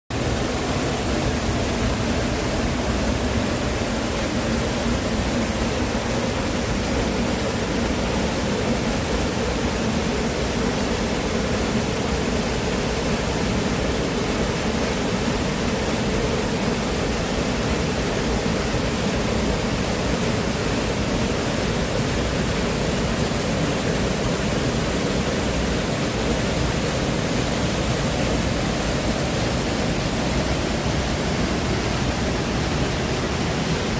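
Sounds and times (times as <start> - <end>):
rushing water: 0.1 - 33.9.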